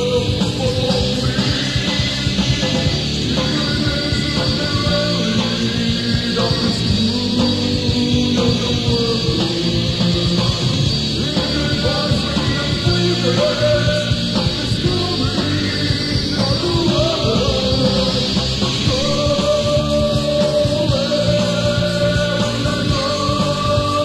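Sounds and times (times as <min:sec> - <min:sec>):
rock band playing punk rock: 0:00.0 - 0:24.0.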